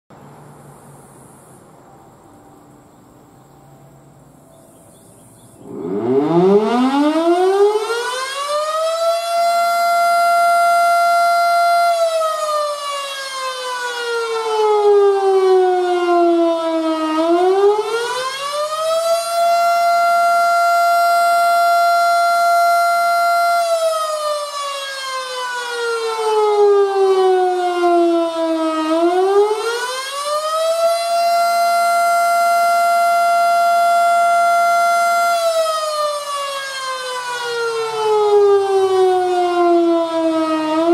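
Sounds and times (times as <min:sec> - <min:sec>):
wailing warning siren: 0:05.6 - 0:40.9.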